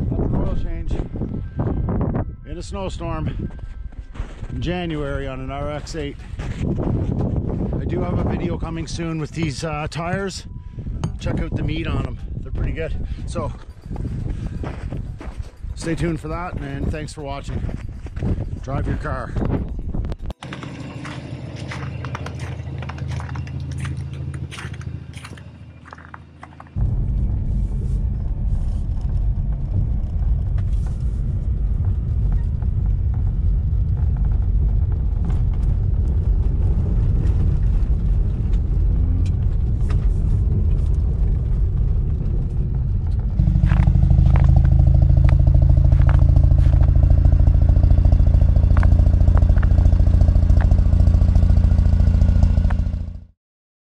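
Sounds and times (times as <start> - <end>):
car engine rumble in cabin: 4.7 - 17.0, 19.4 - 53.3.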